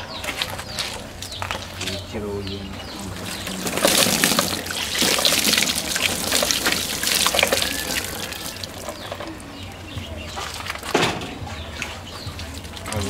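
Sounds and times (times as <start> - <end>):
water splashing over feathers: 0.0 - 2.1, 2.7 - 13.0.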